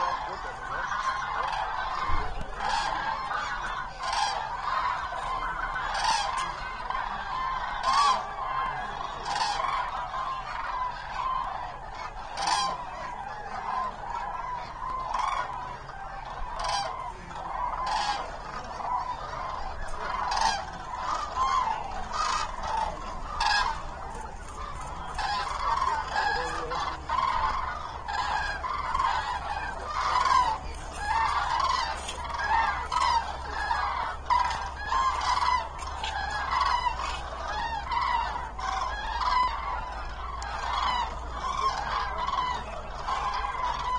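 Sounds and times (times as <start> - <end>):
cranes trumpeting calls: 0.0 - 43.9.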